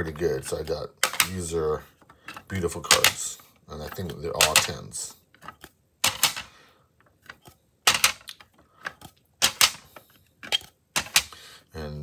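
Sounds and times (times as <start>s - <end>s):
hard plastic slabs clacking: 0.6s - 6.5s, 7.2s - 11.4s.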